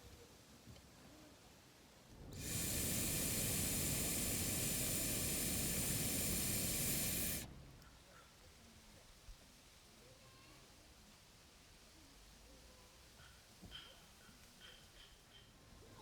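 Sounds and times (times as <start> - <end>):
steady hiss: 2.2 - 16.0.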